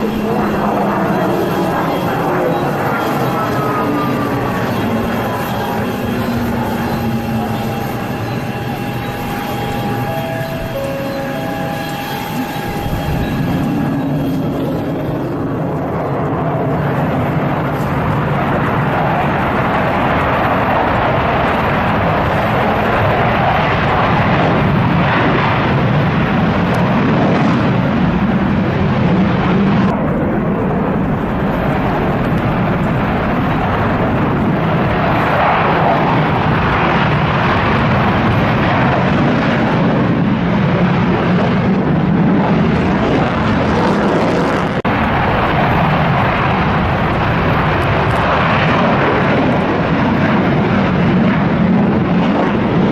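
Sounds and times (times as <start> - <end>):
fighter jet engine noise: 0.0 - 52.9.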